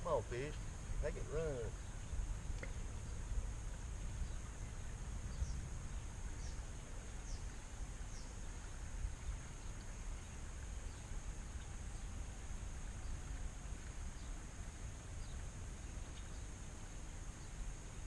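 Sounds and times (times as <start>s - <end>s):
wind rumble on microphone: 0.0s - 16.6s
high insect drone: 0.0s - 18.0s.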